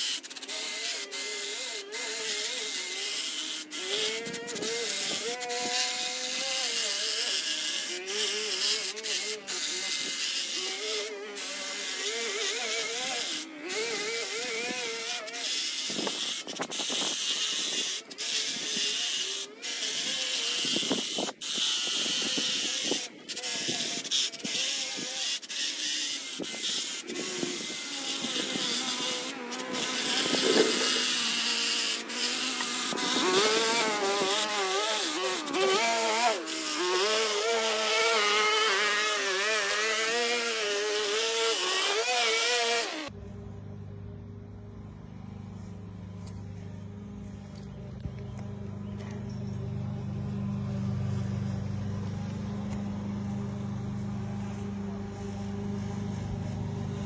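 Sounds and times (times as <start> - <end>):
hedge trimmer buzzing and cutting: 0.0 - 57.0.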